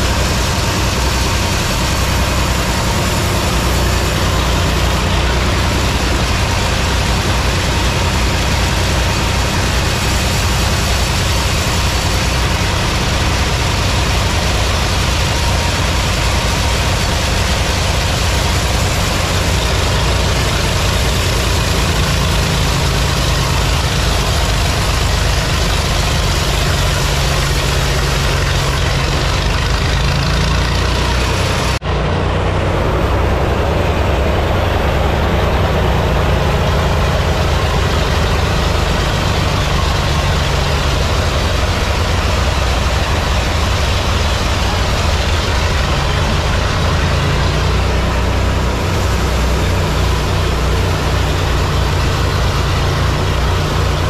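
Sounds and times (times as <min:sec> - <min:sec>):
sawmill machinery engine drone: 0:00.0 - 0:54.0.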